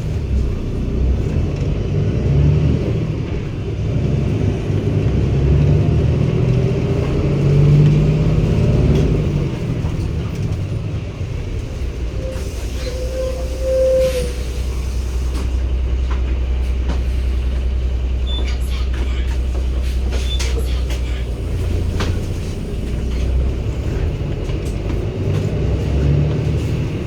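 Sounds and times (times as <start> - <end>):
bus diesel engine under load: 0.0 - 27.0.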